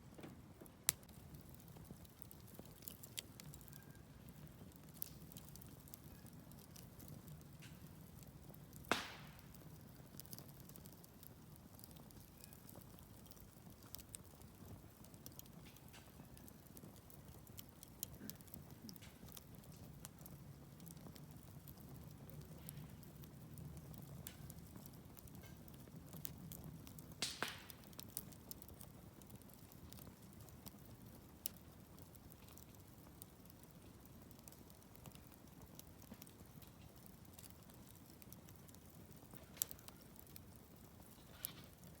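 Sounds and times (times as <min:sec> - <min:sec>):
campfire crackling and popping: 0:00.0 - 0:42.0
low rumble of flames: 0:00.0 - 0:42.0.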